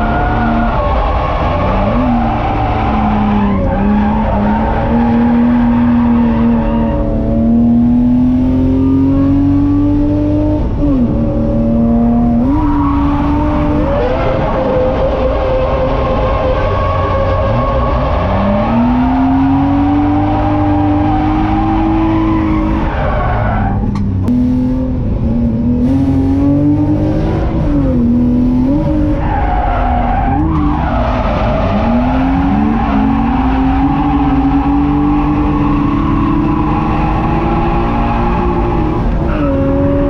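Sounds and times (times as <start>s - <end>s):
car engine revving high: 0.0s - 40.0s.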